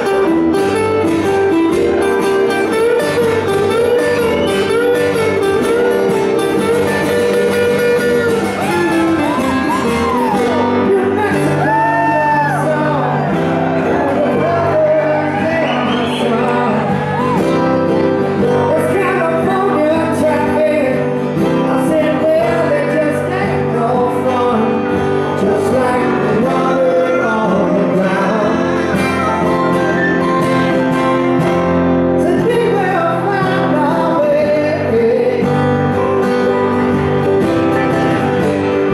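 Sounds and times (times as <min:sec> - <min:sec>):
acoustic guitars strumming: 0:00.0 - 0:38.9.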